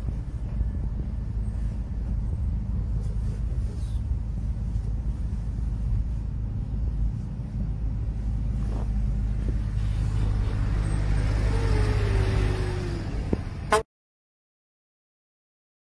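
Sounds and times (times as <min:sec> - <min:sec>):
vehicle engine rumble: 0:00.0 - 0:13.8
road noise: 0:00.0 - 0:13.9.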